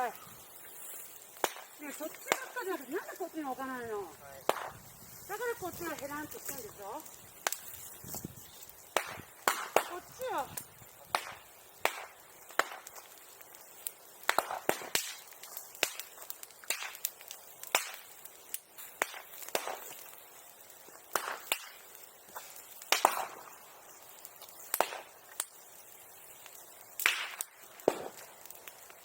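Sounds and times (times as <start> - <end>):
bamboo bonfire crackling: 0.0 - 29.0.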